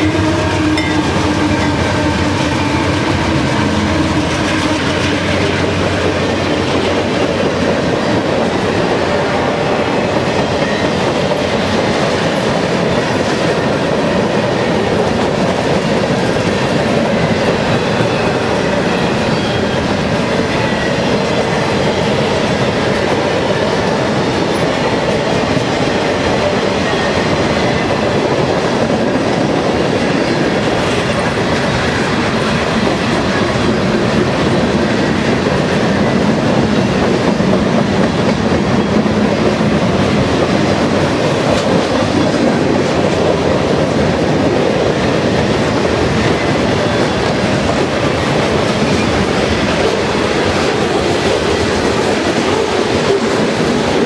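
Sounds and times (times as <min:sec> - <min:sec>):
clickety-clack over rail joints: 0:00.0 - 0:54.0
train wheels rumbling on rails: 0:00.0 - 0:54.0.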